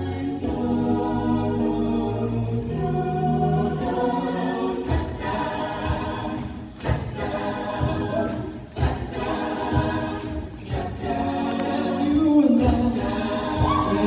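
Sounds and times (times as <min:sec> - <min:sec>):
group singing in close harmony: 0:00.0 - 0:14.0.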